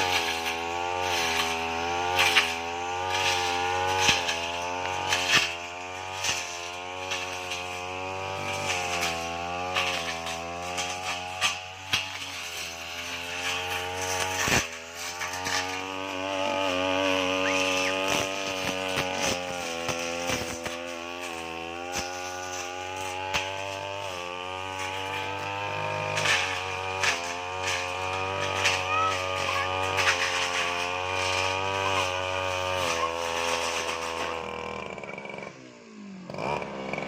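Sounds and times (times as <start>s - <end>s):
brush cutter engine running hard: 0.0s - 37.0s.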